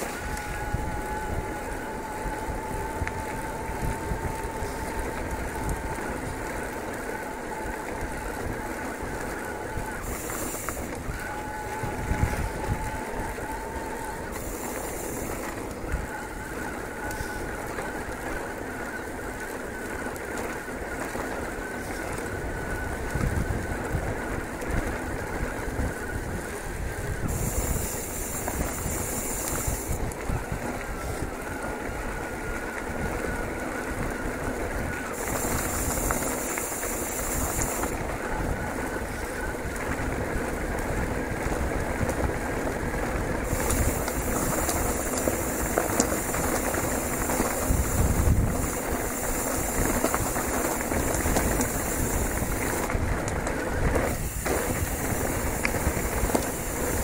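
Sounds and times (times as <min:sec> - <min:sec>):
bike tyres rumbling on gravel: 0:00.0 - 0:57.0
rear hub freewheeling buzz: 0:00.0 - 0:57.0.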